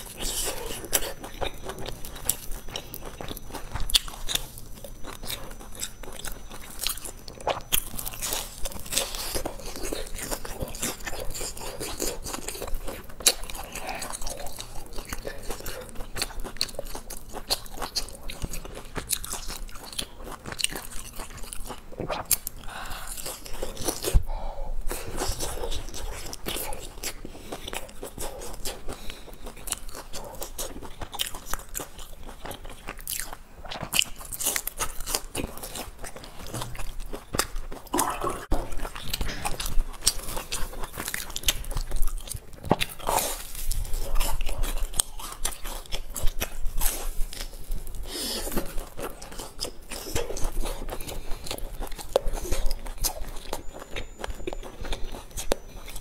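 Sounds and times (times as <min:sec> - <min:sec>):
crunching fried food: 0:00.0 - 0:56.0
wet chewing: 0:00.0 - 0:56.0.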